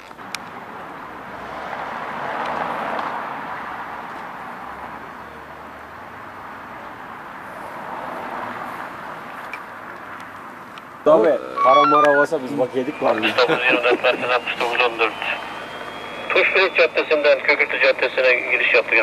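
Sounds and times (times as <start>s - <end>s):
cars passing on street: 0.0s - 19.0s.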